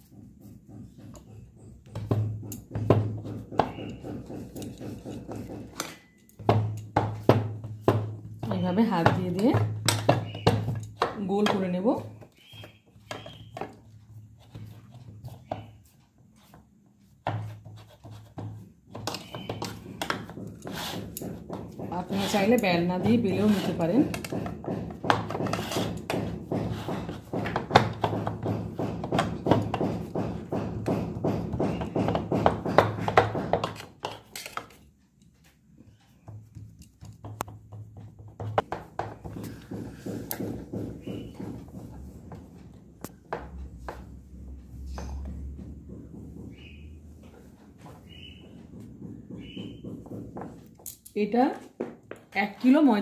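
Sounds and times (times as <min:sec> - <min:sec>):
hands patting dough: 0:00.0 - 0:50.8.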